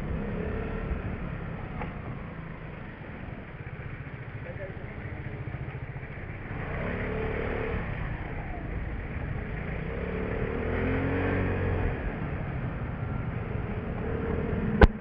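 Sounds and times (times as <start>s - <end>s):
road noise: 0.0s - 15.0s
scooter engine accelerating: 0.0s - 15.0s.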